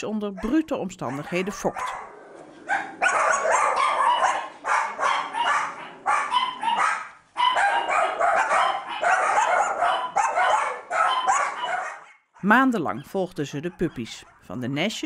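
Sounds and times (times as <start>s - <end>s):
puppies barking and yipping: 0.2s - 14.8s.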